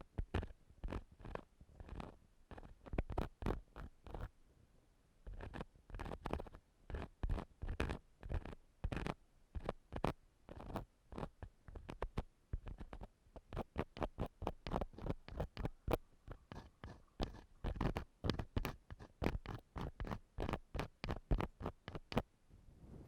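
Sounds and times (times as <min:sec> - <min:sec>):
ear pick scratching microphone: 0:00.2 - 0:04.3, 0:05.2 - 0:22.3.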